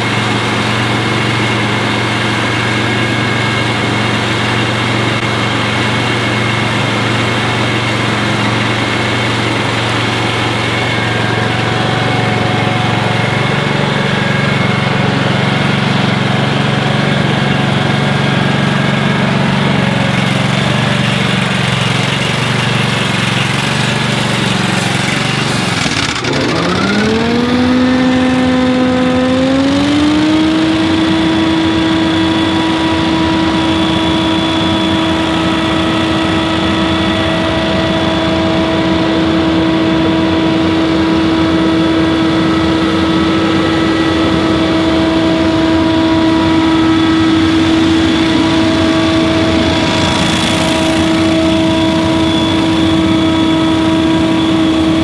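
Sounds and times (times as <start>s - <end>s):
leaf blower engine: 0.0s - 55.0s.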